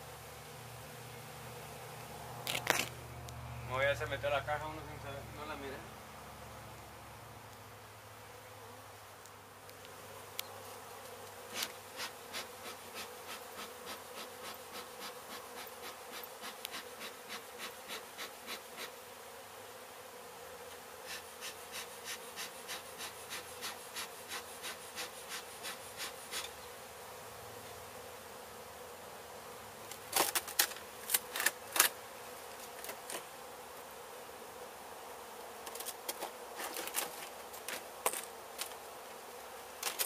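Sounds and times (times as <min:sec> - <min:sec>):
bees buzzing: 0:00.0 - 0:40.0.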